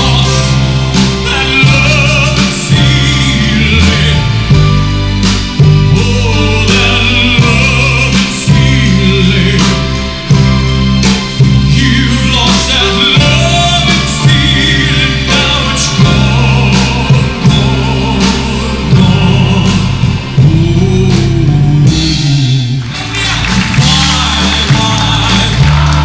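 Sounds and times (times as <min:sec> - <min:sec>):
man singing: 0:00.0 - 0:05.0, 0:05.6 - 0:26.0
band playing with steady beat: 0:00.0 - 0:26.0.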